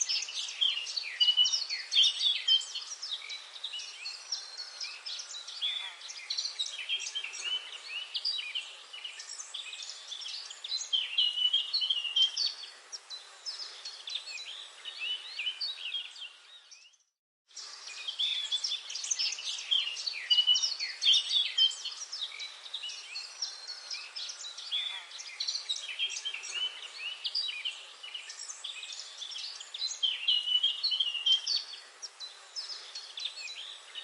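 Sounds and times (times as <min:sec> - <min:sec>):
birds singing and chirping: 0:00.0 - 0:34.0.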